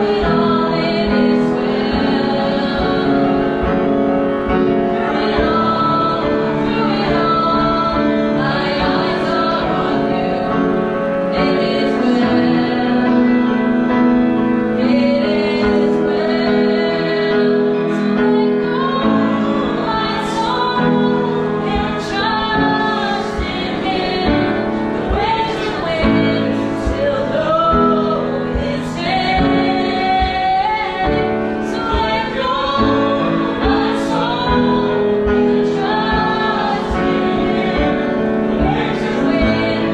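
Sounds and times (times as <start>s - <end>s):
people singing worship music: 0.0s - 39.9s.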